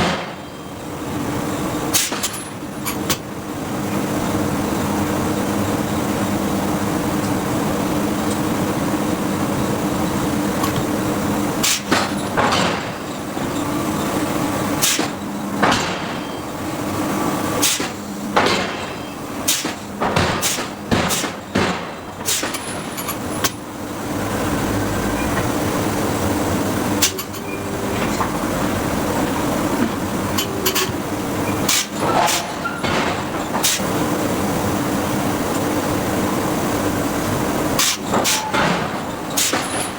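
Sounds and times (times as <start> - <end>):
shop machinery hum: 0.0 - 39.9.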